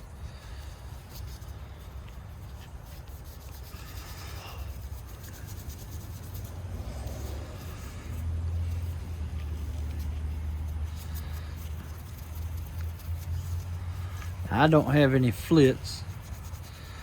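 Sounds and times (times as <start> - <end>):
steady low rumble: 0.0 - 17.0
polish rubbing on knife: 1.0 - 17.0.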